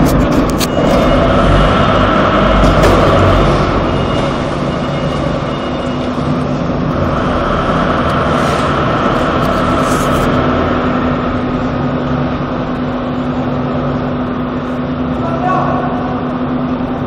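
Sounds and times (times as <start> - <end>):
machine humming and whining: 0.0 - 17.0.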